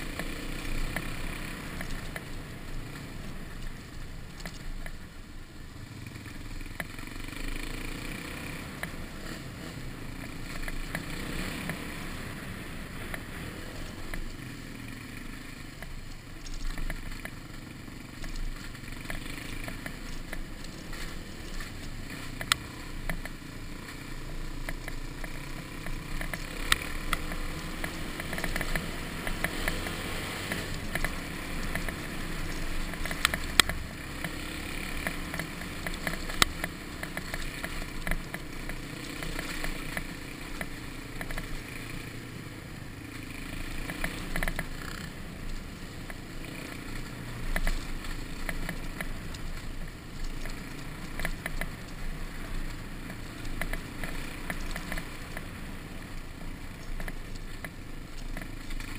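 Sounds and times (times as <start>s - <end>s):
bike knocking and rattling on bumps: 0.0s - 42.3s, 43.2s - 58.9s
dirt bike engine running: 0.0s - 58.9s.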